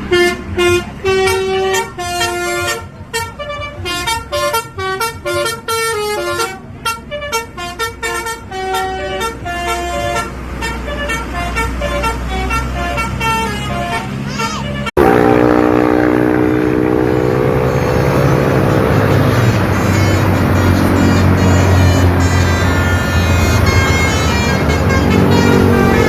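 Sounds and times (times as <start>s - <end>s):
low engine rumble: 0.0s - 26.0s
musical bus air horn: 0.0s - 26.0s.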